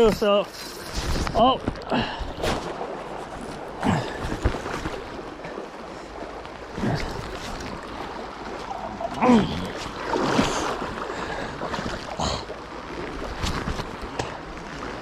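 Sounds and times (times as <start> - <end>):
river current rushing: 0.6 - 15.0.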